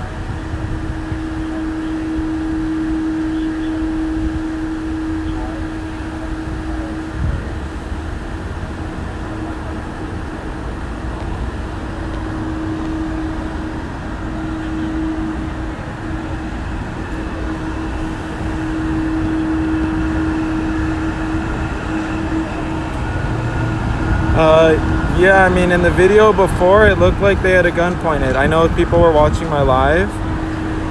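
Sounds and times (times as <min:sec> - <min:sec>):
city street traffic: 0:00.0 - 0:30.9
constant hum: 0:00.0 - 0:30.9.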